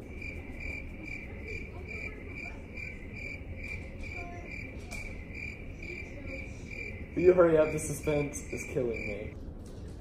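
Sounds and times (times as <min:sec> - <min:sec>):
cricket chirping: 0:00.1 - 0:09.4.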